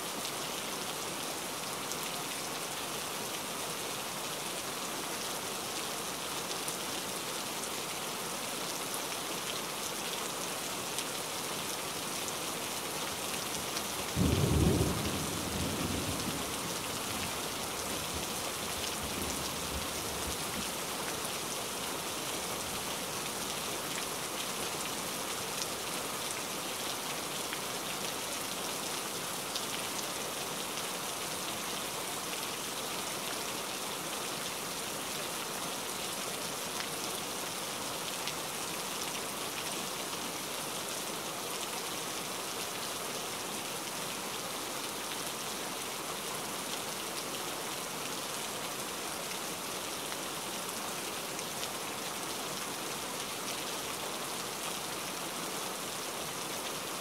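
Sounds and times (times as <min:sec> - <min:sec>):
rain on foliage: 0:00.0 - 0:57.0.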